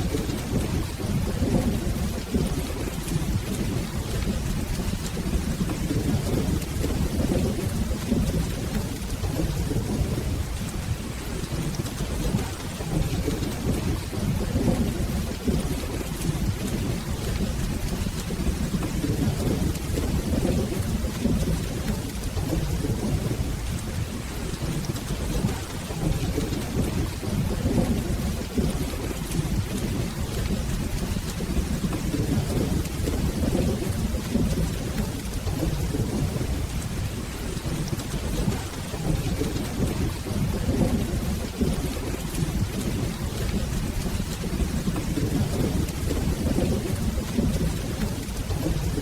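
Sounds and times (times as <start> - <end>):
rolling thunder rumble: 0.0 - 49.0
steady rain hiss: 0.0 - 49.0.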